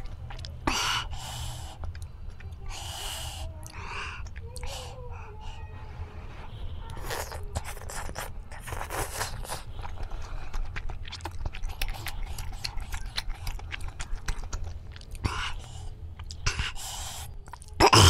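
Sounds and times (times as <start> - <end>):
chewing with wet mouth clicks: 0.0 - 2.9, 3.6 - 4.8, 6.8 - 17.9.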